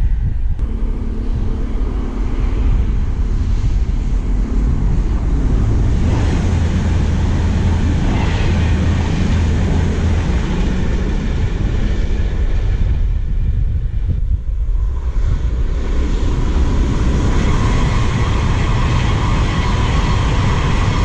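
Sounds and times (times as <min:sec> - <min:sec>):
train passing rumble: 0:00.0 - 0:21.0
wind buffeting microphone: 0:00.0 - 0:21.0.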